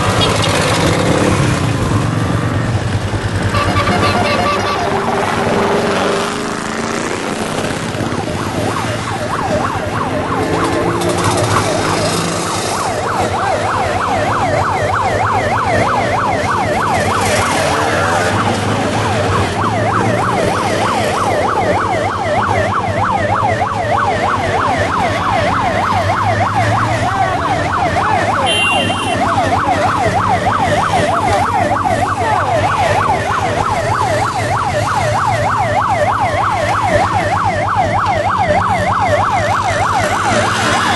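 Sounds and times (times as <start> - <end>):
motorcycles and scooters passing: 0.0 - 40.9
electronic siren yelping: 3.4 - 40.9.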